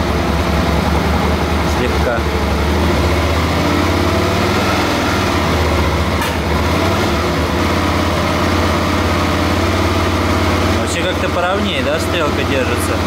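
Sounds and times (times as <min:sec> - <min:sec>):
motorcycle engine running steadily: 0:00.0 - 0:04.4, 0:05.1 - 0:13.0.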